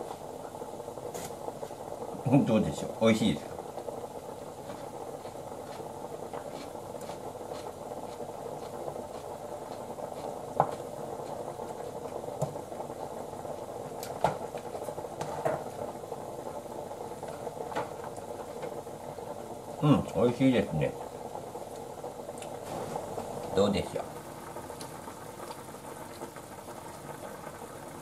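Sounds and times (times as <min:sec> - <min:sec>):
stew bubbling in a pot: 0:00.0 - 0:28.0.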